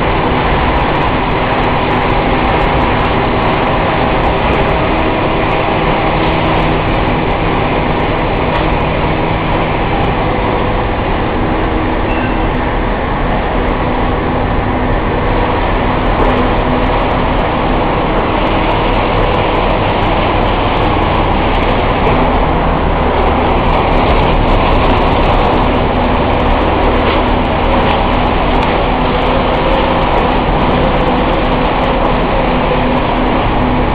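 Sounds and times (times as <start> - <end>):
low hum: 0.0 - 33.9
production line machinery running: 0.0 - 33.9.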